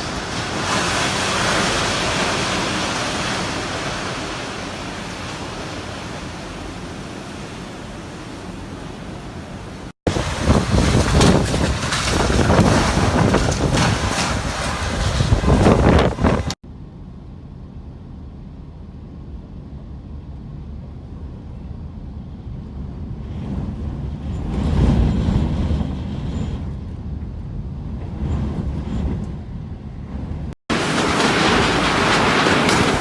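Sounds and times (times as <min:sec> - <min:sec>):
wind rushing across microphone: 0:00.0 - 0:16.6, 0:19.7 - 0:33.0.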